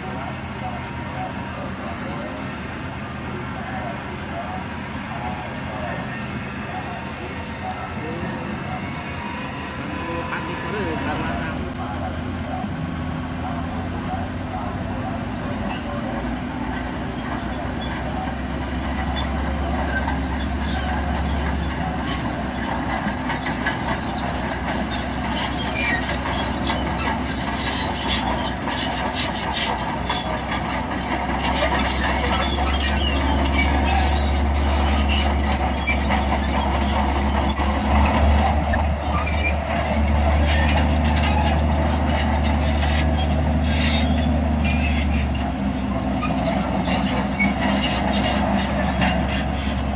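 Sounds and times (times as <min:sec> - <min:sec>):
diesel engine droning: 0:00.0 - 0:49.9
squeaking steel tracks: 0:00.0 - 0:49.9.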